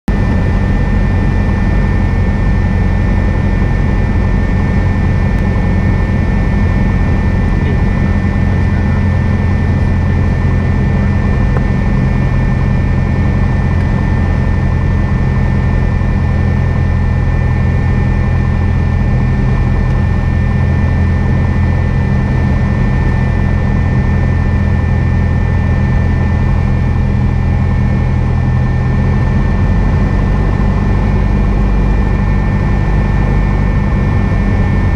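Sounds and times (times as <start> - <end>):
aircraft engine and propeller drone: 0.0 - 34.9.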